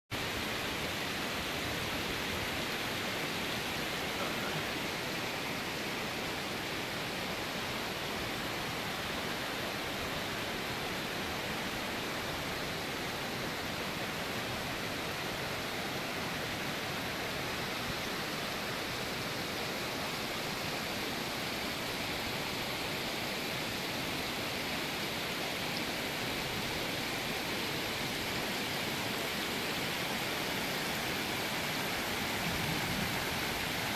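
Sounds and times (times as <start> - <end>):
stream rushing over stones: 0.1 - 33.9.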